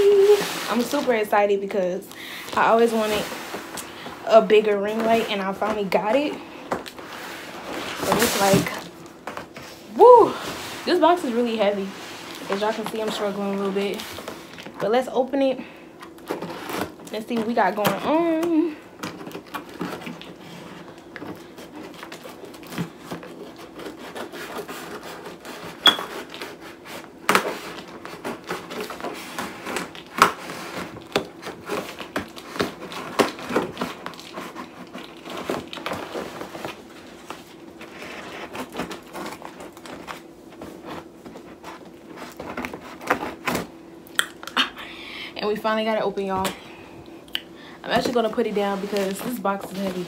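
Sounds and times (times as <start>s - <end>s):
cardboard rustling: 0.0s - 43.8s, 47.8s - 50.0s.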